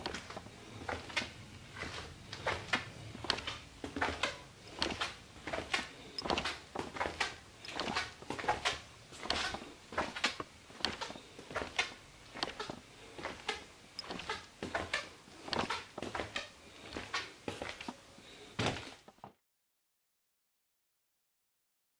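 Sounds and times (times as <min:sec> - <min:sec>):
footsteps walking: 0:00.0 - 0:19.3.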